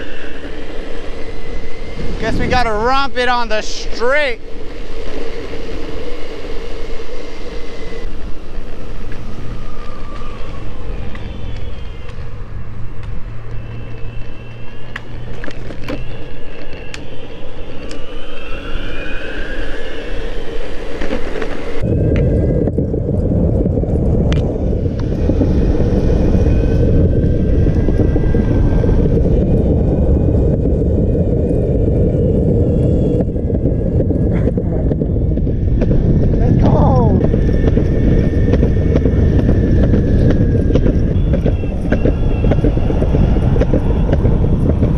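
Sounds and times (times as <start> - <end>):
electric motor whine: 0.0 - 44.9
skateboard wheels rumbling: 0.0 - 44.9.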